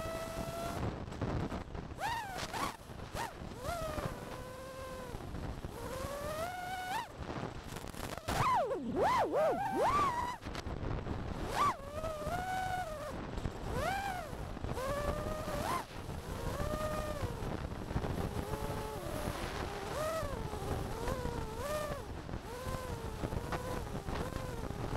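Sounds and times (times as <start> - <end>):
drone motors whining: 0.0 - 0.8, 2.0 - 7.1, 7.9 - 10.4, 11.4 - 17.5, 18.1 - 24.9
wind rumble on microphone: 0.0 - 24.9.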